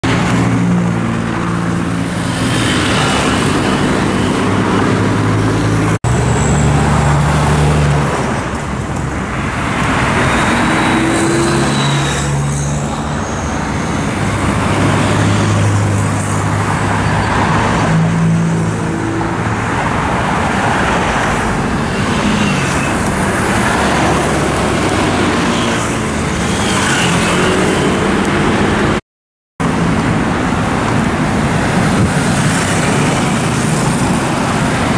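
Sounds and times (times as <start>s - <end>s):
vehicles passing: 0.0s - 29.0s, 29.6s - 34.9s.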